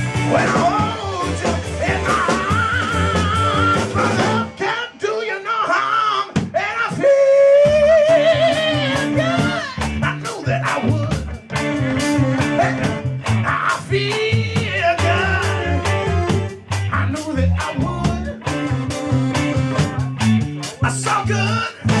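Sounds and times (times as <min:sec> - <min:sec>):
live band playing: 0:00.0 - 0:22.0.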